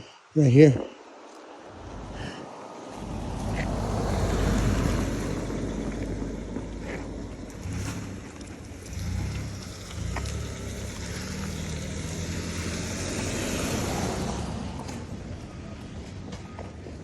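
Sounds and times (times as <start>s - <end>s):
vehicle driving past: 1.7s - 16.4s.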